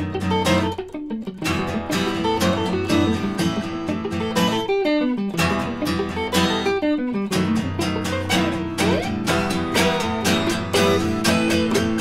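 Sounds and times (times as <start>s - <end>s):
acoustic guitar playing: 0.0s - 12.0s
electric guitar playing: 0.0s - 12.0s.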